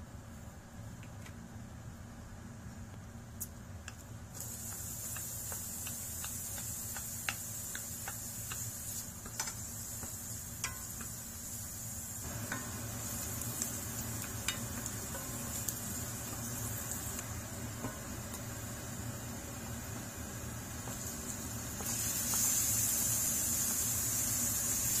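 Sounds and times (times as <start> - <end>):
onion sizzling in hot oil: 4.3 - 25.0.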